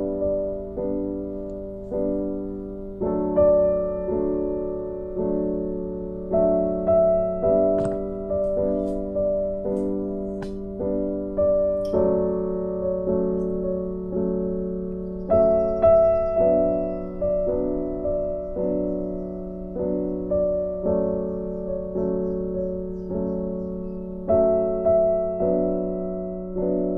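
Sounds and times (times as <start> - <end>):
piano background music: 0.0 - 26.9.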